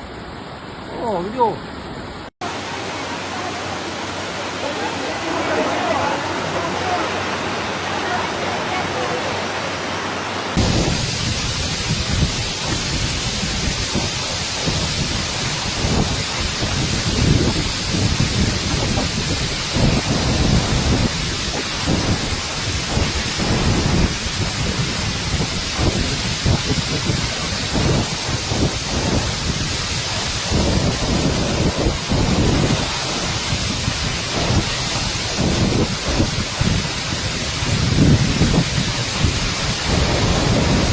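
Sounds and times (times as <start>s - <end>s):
torrential rain pouring: 0.3s - 40.9s.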